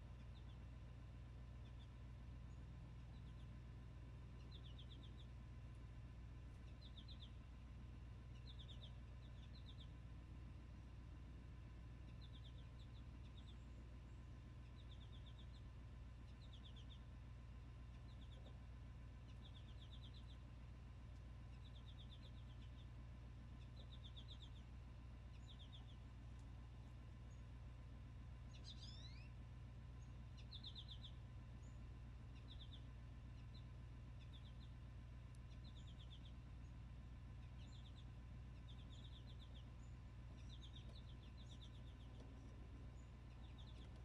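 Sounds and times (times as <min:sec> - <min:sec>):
bird chirping: 0:00.0 - 0:44.0
steady low hum: 0:00.0 - 0:44.0.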